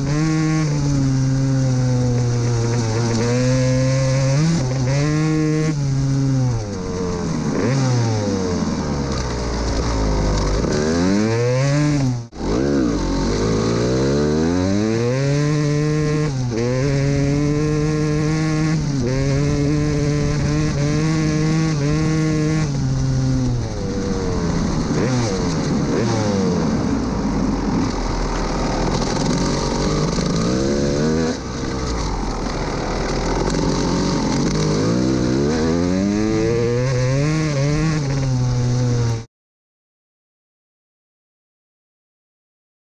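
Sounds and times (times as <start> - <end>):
motocross engine revving: 0.0 - 39.3.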